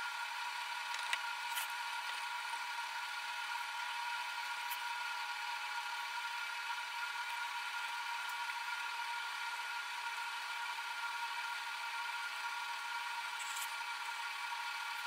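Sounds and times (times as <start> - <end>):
steady whir with hiss: 0.0 - 15.0.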